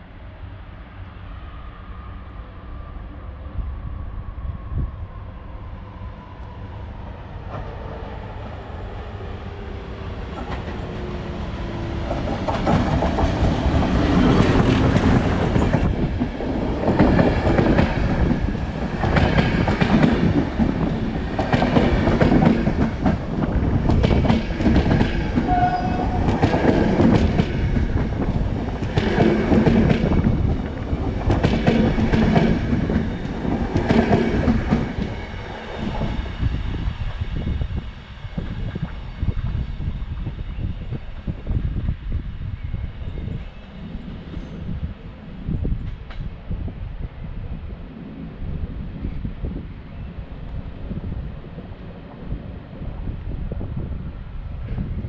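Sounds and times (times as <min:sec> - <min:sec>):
train rumble and whine: 0:00.0 - 0:55.0.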